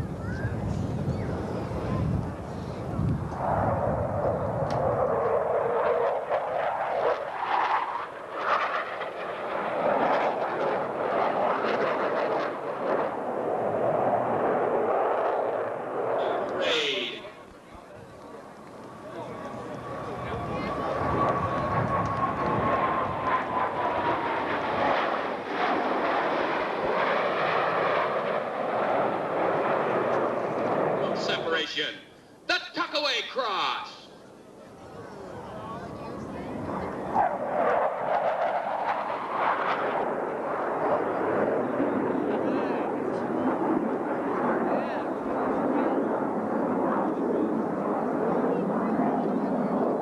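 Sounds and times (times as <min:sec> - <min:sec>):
jet aircraft flying past: 0:00.0 - 0:50.0.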